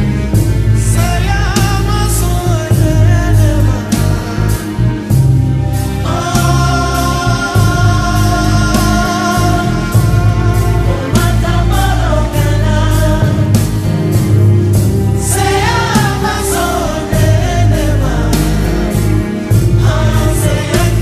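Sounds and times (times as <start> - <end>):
heavy bass: 0.0 - 21.0
song with sung vocal: 0.0 - 21.0
steady drum beat: 0.0 - 21.0.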